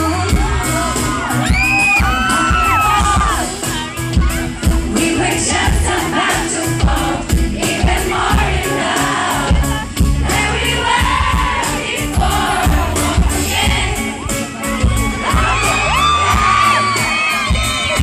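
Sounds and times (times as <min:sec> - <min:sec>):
drum and bass beat: 0:00.0 - 0:18.0
live pop music: 0:00.0 - 0:18.0
lead vocal: 0:02.0 - 0:18.0
crowd singing along: 0:03.1 - 0:18.0.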